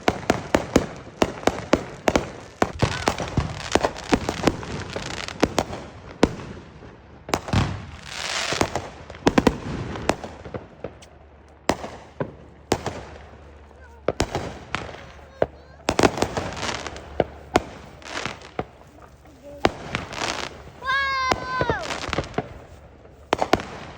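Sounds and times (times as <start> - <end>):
fireworks bangs and cracks: 0.0 - 23.9
hissing crackling fireworks rush: 0.0 - 23.9.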